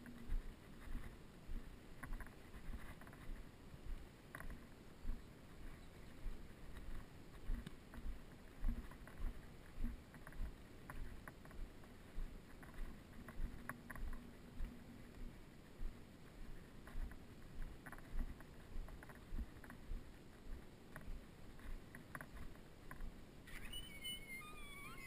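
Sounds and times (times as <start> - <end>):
footsteps on packed dirt: 0.0 - 23.2.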